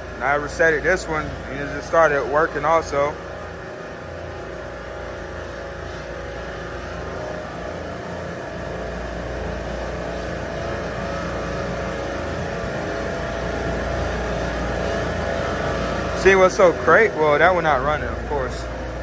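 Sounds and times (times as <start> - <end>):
refrigeration compressors humming: 0.0 - 19.0.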